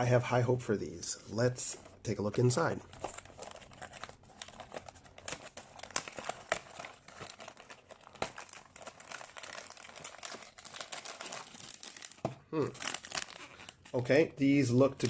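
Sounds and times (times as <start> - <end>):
crinkling of packaging: 1.7 - 14.1.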